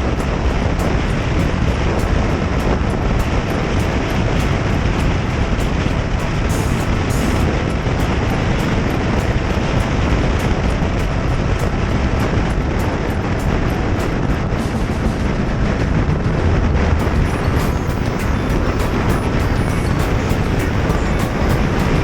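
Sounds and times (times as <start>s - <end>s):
rush of wind and road noise: 0.0s - 22.0s.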